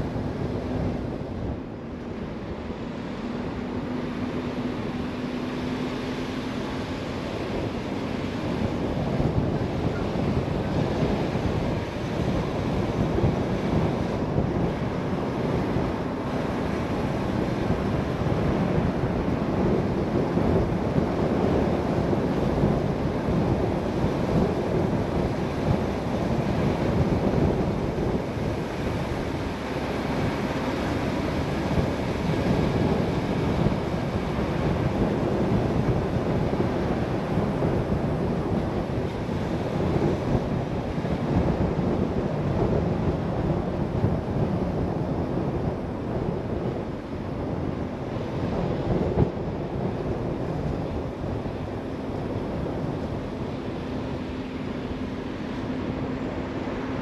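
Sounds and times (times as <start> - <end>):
car tyre and wind noise: 0.0 - 57.0.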